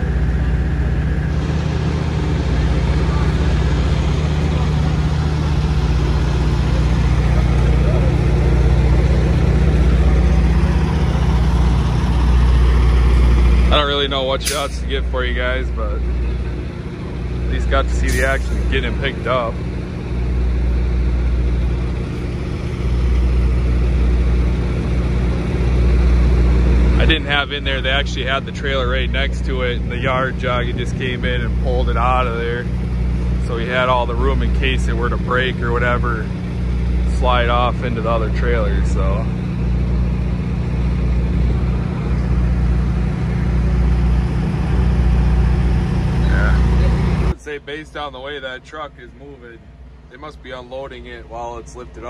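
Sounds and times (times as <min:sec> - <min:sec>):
diesel engine humming: 0:00.0 - 0:52.0.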